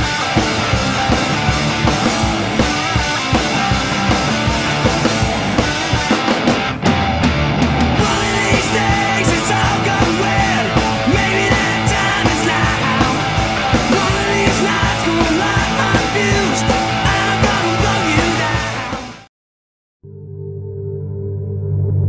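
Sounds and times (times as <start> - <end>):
rock music with steady beat: 0.0 - 19.3.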